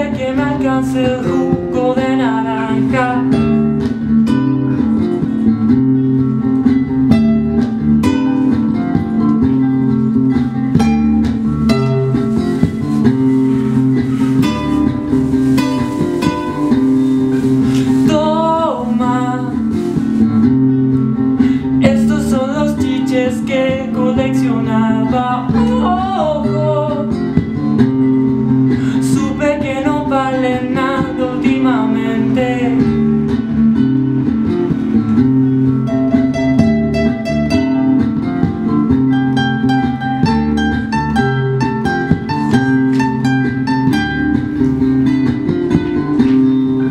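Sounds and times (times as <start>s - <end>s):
guitar plucked notes and chords: 0.0s - 46.9s.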